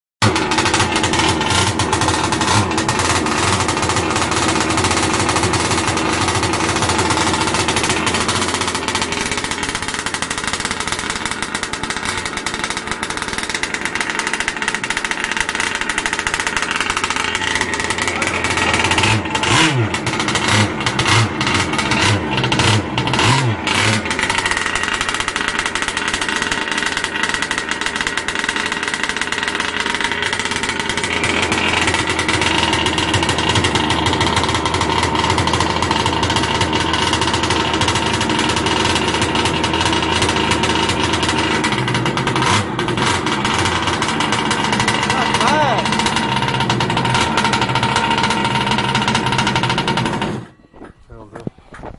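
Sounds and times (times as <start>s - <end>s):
small two-stroke engine revving: 0.2s - 50.6s.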